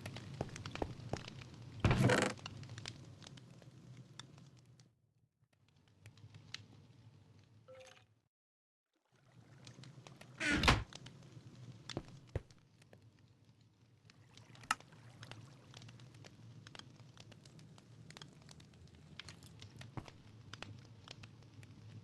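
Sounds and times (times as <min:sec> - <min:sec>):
campfire crackling and popping: 0:00.0 - 0:04.9, 0:05.6 - 0:07.6, 0:09.2 - 0:22.0.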